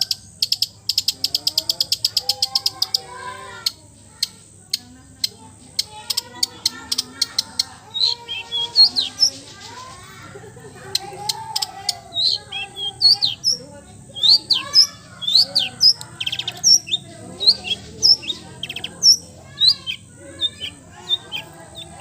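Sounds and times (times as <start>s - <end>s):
bird singing varied song: 0.0s - 22.0s.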